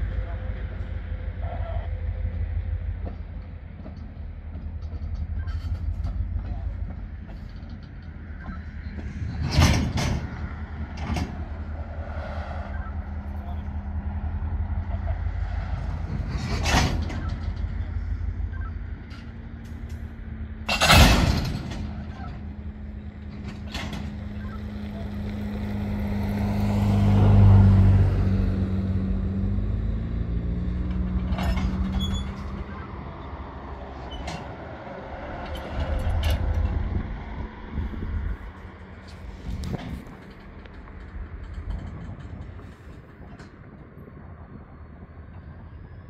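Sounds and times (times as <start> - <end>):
diesel locomotive humming: 0.0 - 46.0.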